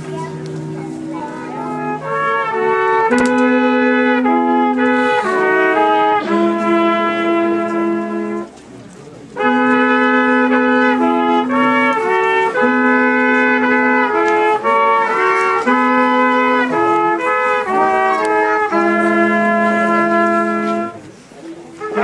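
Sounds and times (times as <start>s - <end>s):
brass instruments playing slow tune: 0.0s - 8.7s, 9.3s - 22.0s.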